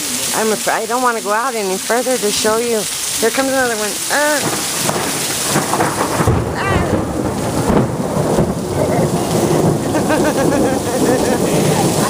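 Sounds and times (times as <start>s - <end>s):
heavy rain: 0.0s - 12.0s
thunder rumbling: 0.0s - 12.0s.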